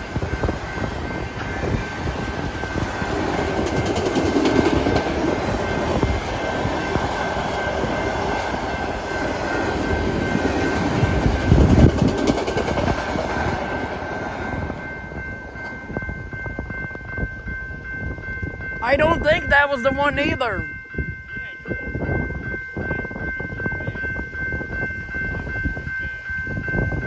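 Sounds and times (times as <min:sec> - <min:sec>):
freight train rumbling and rattling: 0:00.0 - 0:27.0.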